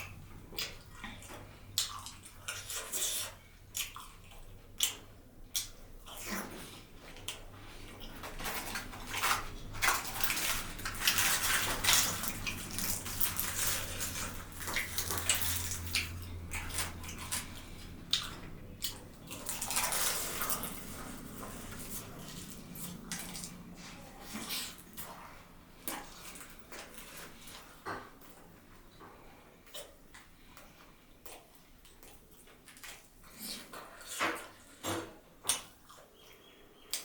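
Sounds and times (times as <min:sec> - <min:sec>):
wet chewing of food: 0:00.0 - 0:37.0.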